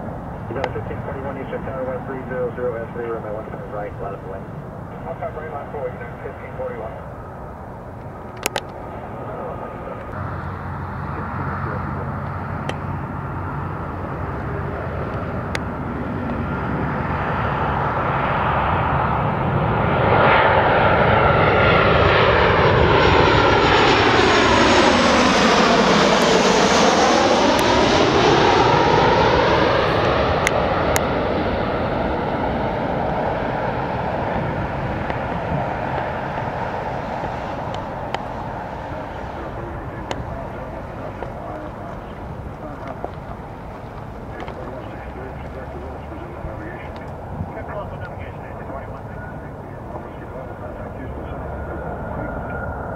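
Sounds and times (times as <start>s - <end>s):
jet engines passing overhead: 0.0s - 52.9s.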